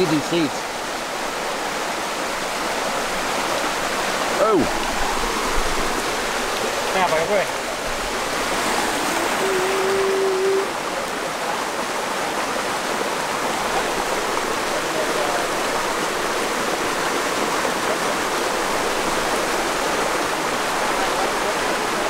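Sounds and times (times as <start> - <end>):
running water: 0.0 - 22.0.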